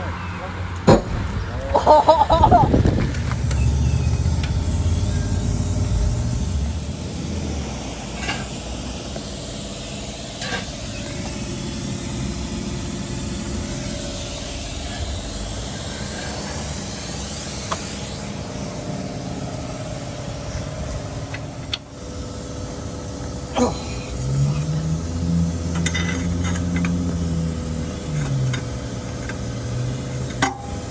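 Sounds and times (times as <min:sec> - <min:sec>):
car engine rumbling: 0:00.0 - 0:22.9, 0:23.5 - 0:30.9.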